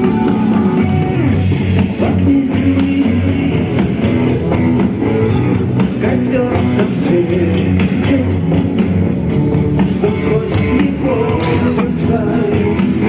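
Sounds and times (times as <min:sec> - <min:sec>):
drum kit beat: 0:00.0 - 0:13.0
electric guitar: 0:00.0 - 0:13.0
keyboards: 0:00.0 - 0:13.0.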